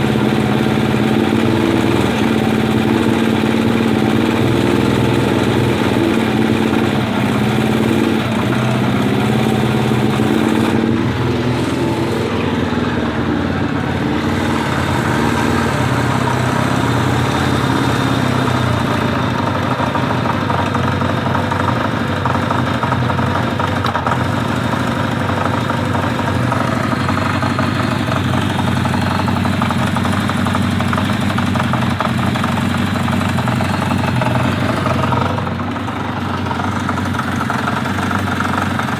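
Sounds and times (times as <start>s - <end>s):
engine knocking and ticking: 0.0s - 38.9s
motorcycle engine idling: 0.0s - 38.9s.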